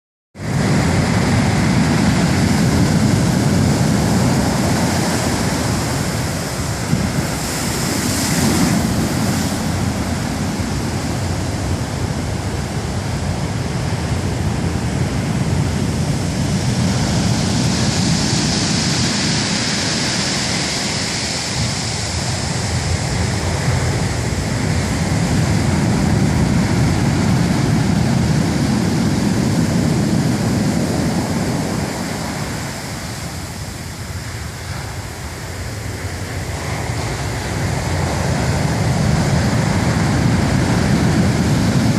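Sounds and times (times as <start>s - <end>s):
heavy surf crashing waves: 0.4s - 41.9s.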